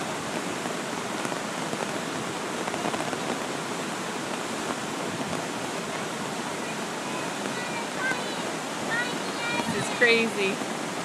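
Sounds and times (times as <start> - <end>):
flooded creek rushing: 0.0 - 11.0
rain falling: 0.0 - 11.0.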